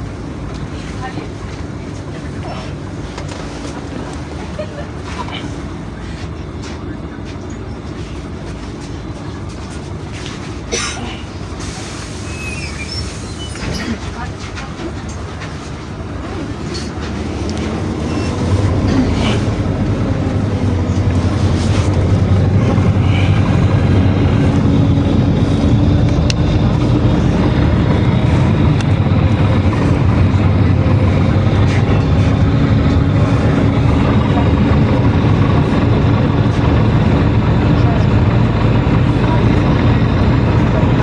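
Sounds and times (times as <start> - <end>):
bus engine drone: 0.0 - 41.0
road noise: 0.0 - 41.0.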